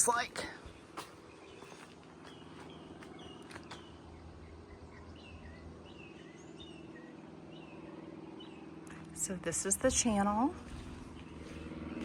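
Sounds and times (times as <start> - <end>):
faint low hum: 0.0 - 12.0
small birds chirping: 0.0 - 12.0.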